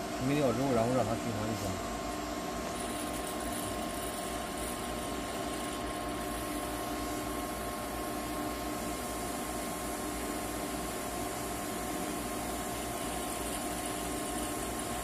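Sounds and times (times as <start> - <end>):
printer pump mechanical hum: 0.0 - 15.0.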